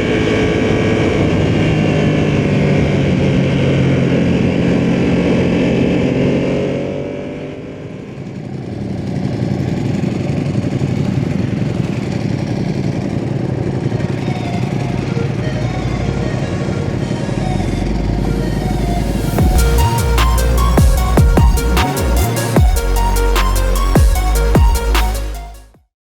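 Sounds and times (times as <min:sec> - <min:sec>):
road and wind rush: 0:00.0 - 0:22.4
motorcycle engine running: 0:00.0 - 0:25.6.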